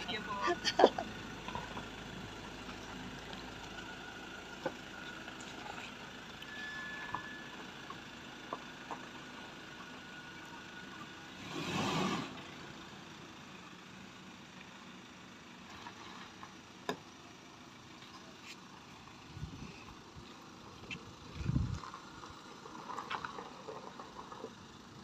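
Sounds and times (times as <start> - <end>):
pickup engine running: 0.0 - 25.0.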